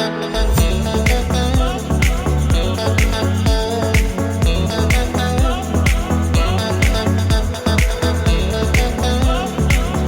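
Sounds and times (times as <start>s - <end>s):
bass-heavy drum beat: 0.6s - 10.0s.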